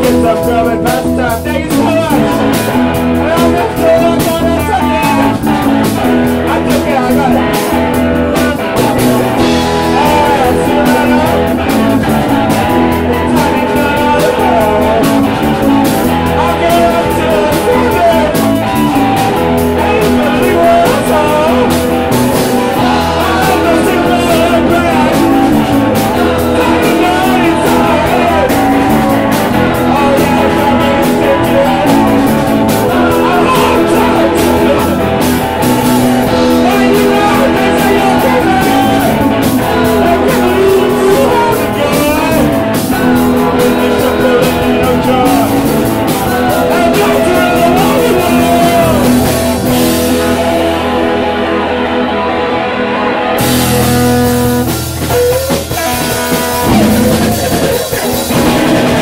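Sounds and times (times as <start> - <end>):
drum kit: 0.0 - 51.8, 53.3 - 59.0
electric guitars: 0.0 - 59.0
person singing: 0.0 - 59.0.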